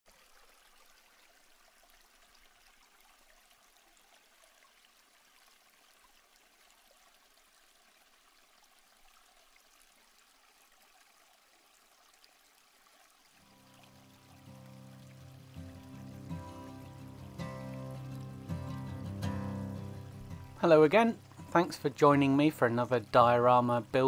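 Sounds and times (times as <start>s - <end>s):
faint trickling water: 0.1s - 24.0s.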